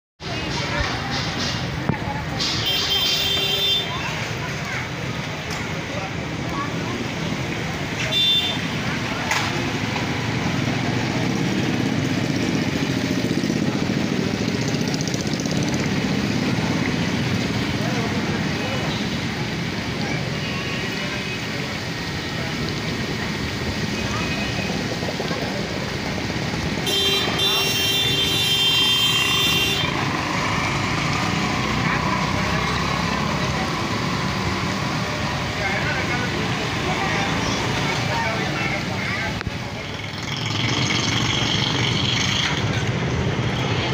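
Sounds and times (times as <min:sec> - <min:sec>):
street traffic: 0:00.2 - 0:43.9.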